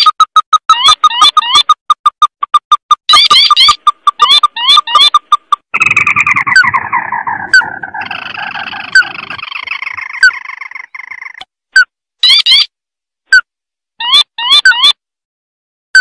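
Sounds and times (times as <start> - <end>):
bird calling in rapid trills: 0.0 - 12.7, 14.0 - 15.0.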